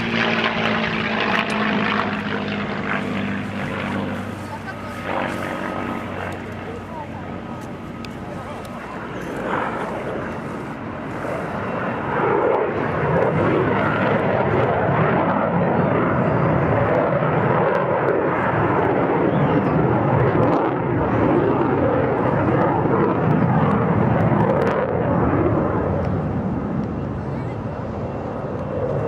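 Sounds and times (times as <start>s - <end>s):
fighter jet roaring: 0.0s - 29.0s.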